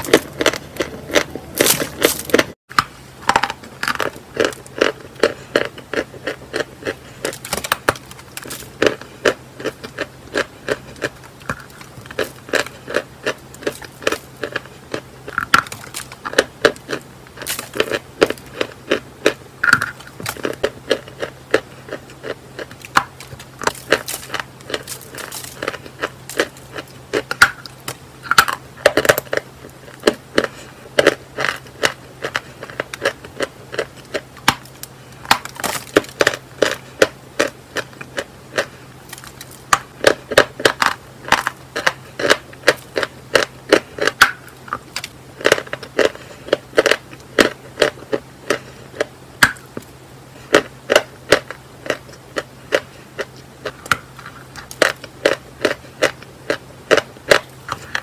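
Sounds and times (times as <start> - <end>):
chalk crunching while chewed: 0.0 - 2.6, 3.5 - 58.0.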